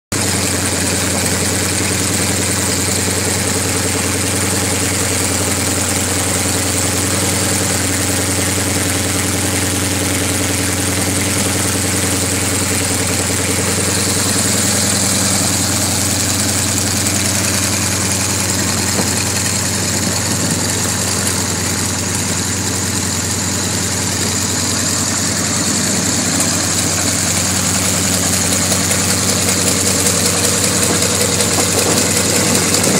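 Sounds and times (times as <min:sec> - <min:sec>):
radial aircraft engine idling: 0:00.1 - 0:32.9.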